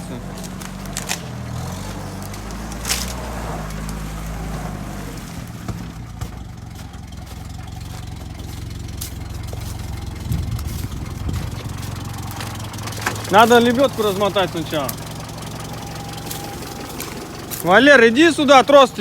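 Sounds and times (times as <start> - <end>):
engine revving and idling: 0.0 - 19.0.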